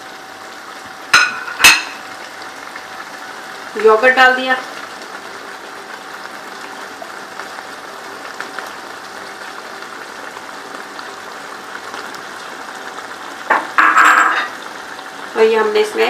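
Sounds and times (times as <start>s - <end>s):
food sizzling and bubbling in pot: 0.0s - 16.0s.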